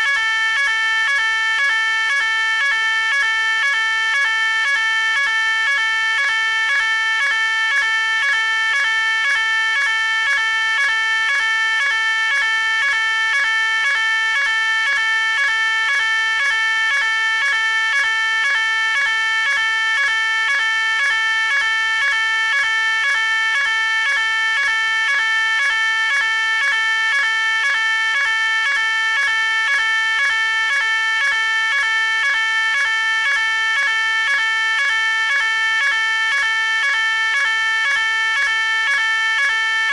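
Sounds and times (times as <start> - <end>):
fire alarm pulsing tone: 0.0 - 39.9.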